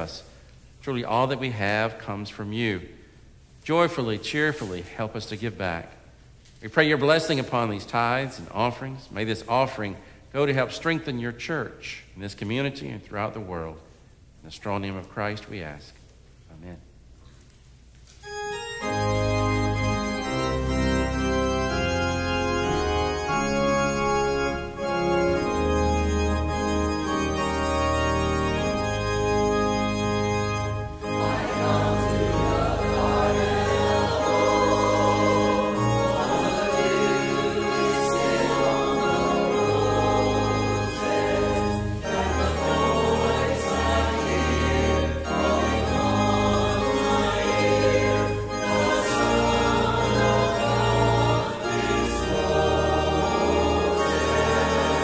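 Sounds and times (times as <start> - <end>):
church organ playing chords: 0.0 - 6.0, 6.7 - 13.8, 18.2 - 55.0.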